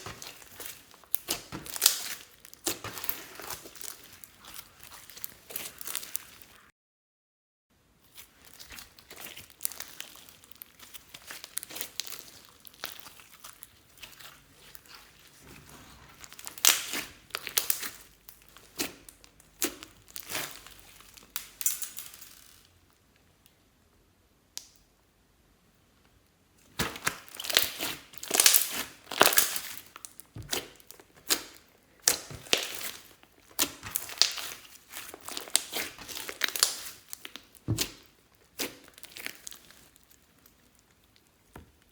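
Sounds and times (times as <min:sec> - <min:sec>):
slime squeezed with sticky pops: 0:00.0 - 0:06.6, 0:08.1 - 0:22.3, 0:26.6 - 0:41.9.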